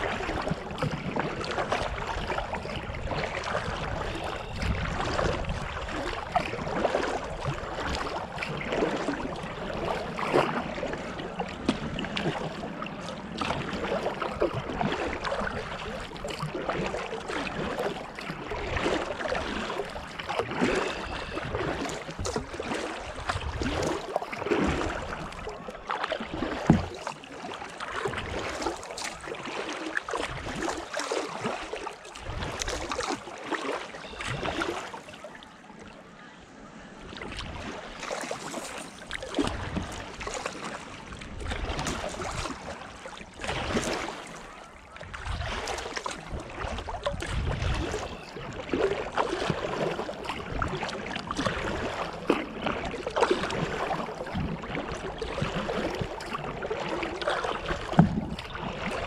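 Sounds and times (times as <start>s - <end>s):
paddle splashing and dripping: 0.0s - 59.0s.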